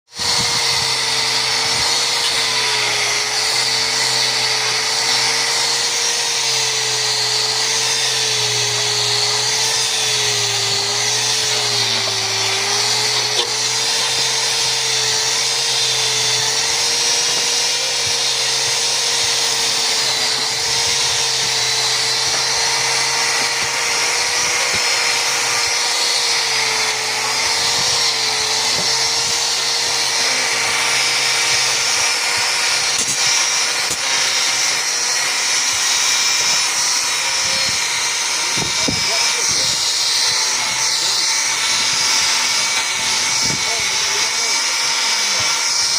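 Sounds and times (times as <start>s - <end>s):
power tool motor whirring: 0.1s - 45.9s.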